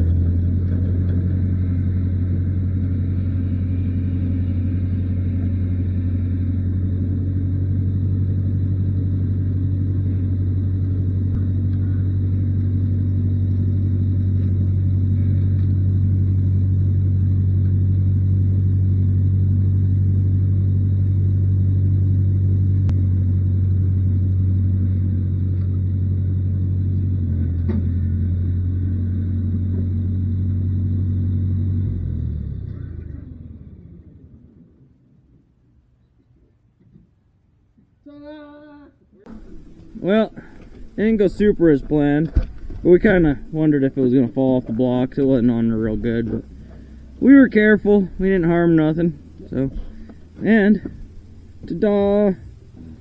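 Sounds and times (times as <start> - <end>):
engine running steadily: 0.0 - 35.6, 39.3 - 53.0.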